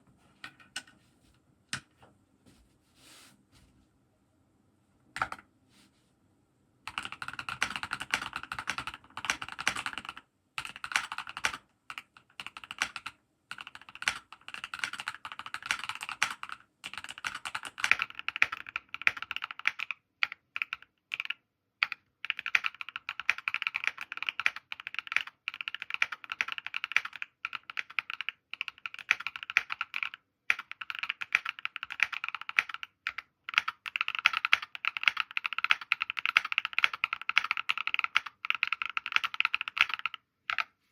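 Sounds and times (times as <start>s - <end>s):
mechanical keyboard typing: 6.9s - 40.7s.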